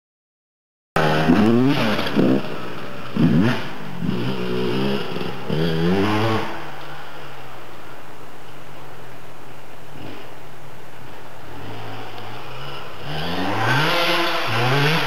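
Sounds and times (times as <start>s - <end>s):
motocross bike engine revving: 1.0s - 15.0s.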